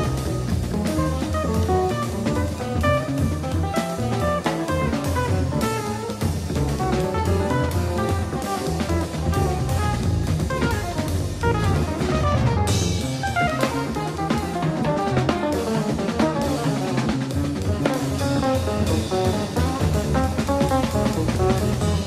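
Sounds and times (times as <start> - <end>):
double bass plucking: 0.0 - 22.0
drum kit playing: 0.0 - 22.0
electric guitar lines: 0.0 - 22.0.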